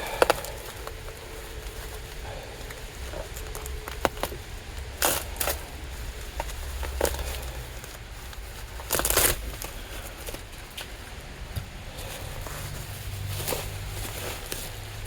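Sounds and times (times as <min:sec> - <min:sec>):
faint low hum: 0:00.0 - 0:15.0
packing material crinkling: 0:00.0 - 0:15.0.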